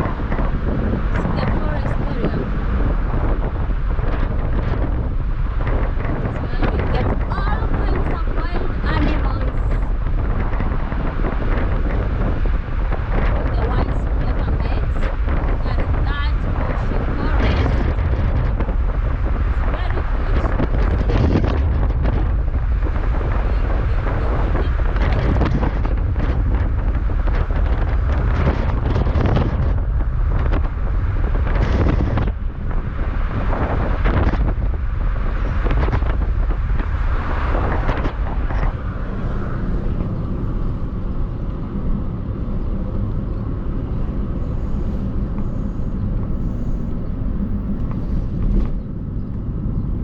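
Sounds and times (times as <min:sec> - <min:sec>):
road and engine rumble: 0:00.0 - 0:50.0
wind hitting microphone: 0:00.0 - 0:50.0.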